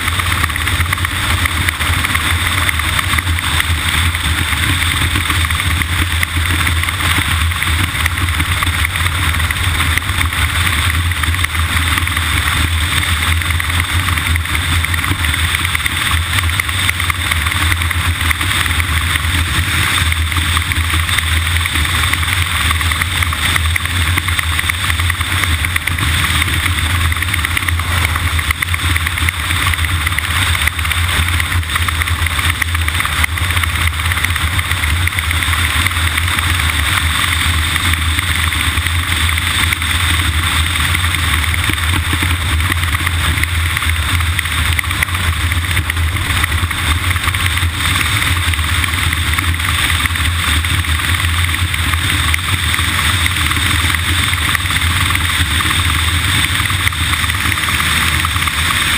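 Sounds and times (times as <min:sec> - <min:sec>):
engine humming with hiss: 0:00.0 - 0:58.9.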